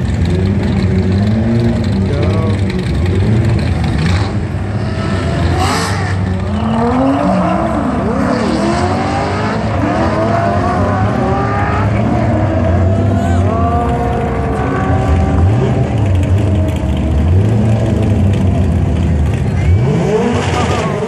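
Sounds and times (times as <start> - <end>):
car engines accelerating hard: 0.0 - 21.0.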